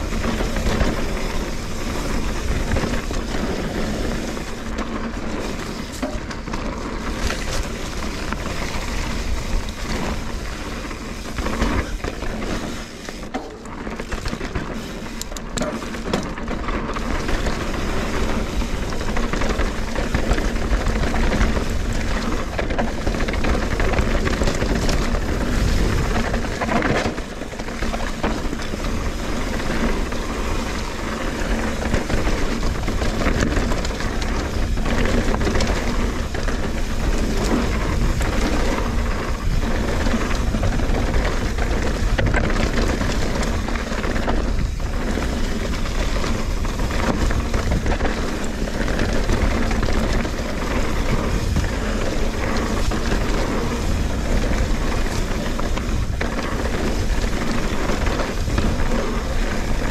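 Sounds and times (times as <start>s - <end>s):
bike knocking and rattling: 0.0s - 59.9s
bike tyres rumbling on dirt: 0.0s - 59.9s
wind: 0.0s - 59.9s.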